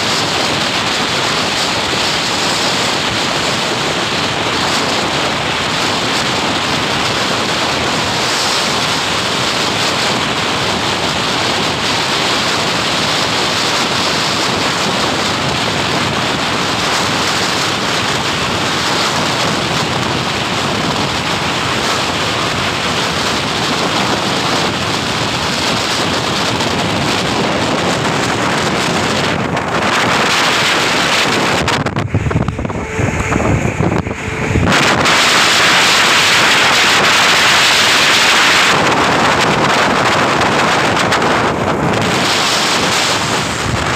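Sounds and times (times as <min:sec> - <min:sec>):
road noise: 0:00.0 - 0:43.9
wind buffeting microphone: 0:00.0 - 0:43.9.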